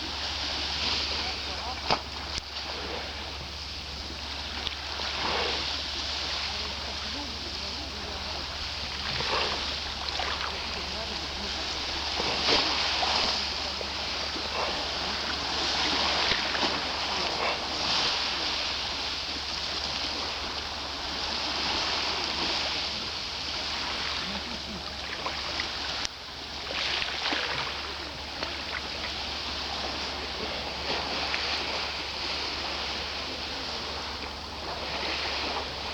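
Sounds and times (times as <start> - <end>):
waves breaking on shore: 0.0 - 35.9.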